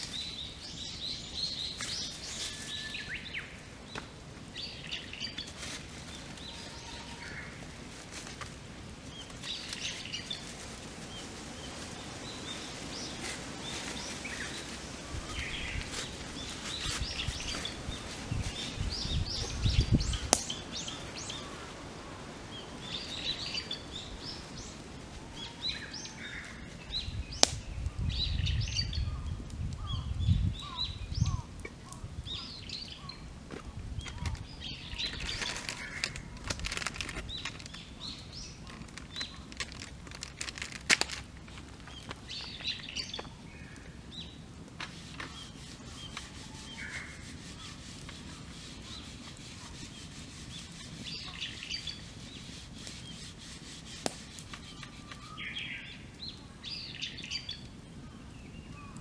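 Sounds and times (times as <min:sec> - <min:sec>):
campfire crackling and popping: 0:00.0 - 0:59.0
birds chirping and singing: 0:09.1 - 0:59.0.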